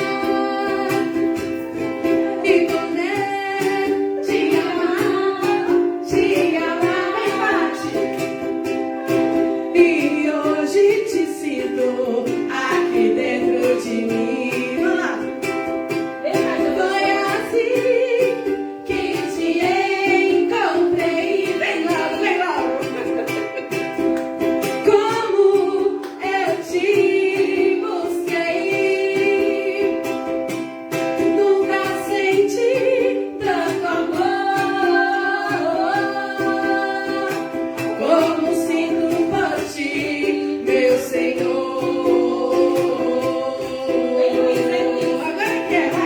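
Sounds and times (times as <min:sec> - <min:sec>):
person singing: 0:00.0 - 0:46.0
strummed string instrument: 0:00.0 - 0:46.0.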